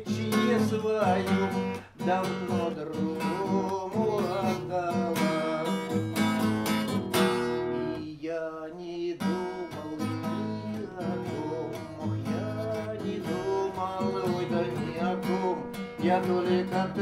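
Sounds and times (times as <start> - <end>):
person singing: 0.0 - 6.9, 7.9 - 17.0
acoustic guitar strumming chords: 0.0 - 8.3, 9.0 - 17.0.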